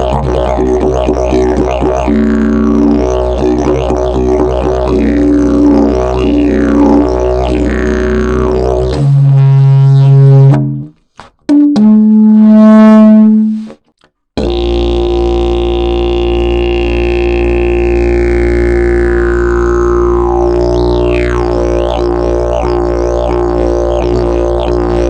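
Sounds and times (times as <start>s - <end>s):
didgeridoo drone: 0.0s - 10.9s, 14.4s - 25.0s.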